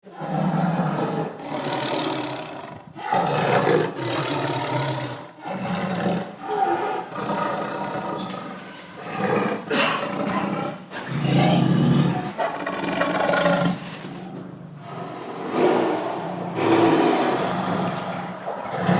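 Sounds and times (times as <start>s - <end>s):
tiger roaring: 0.0s - 18.9s.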